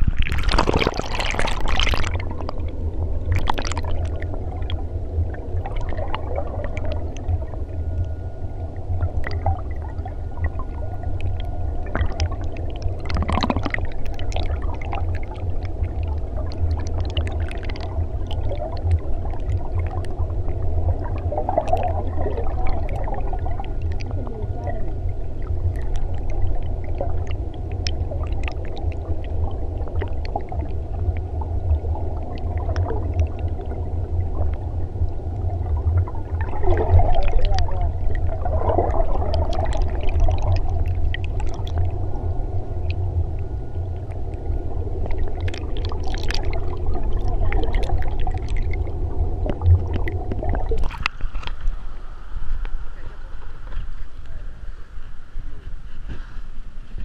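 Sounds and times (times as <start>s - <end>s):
muffled underwater river rumble: 0.0s - 57.0s
water gurgling: 0.0s - 57.0s.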